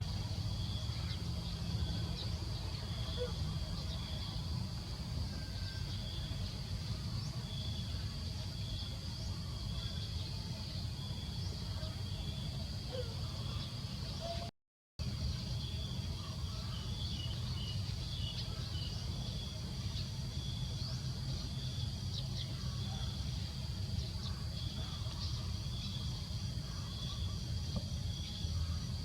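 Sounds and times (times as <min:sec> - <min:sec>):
faint chirps: 0:00.0 - 0:29.0.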